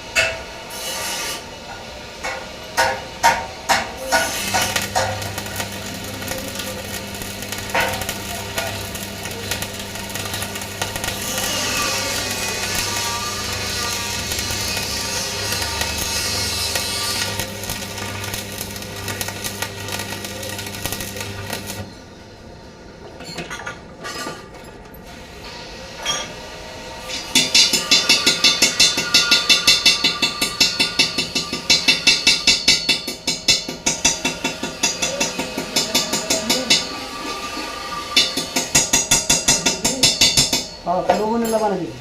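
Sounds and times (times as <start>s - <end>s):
hammer striking metal: 0.1s - 0.6s, 2.2s - 21.8s, 27.1s - 41.7s.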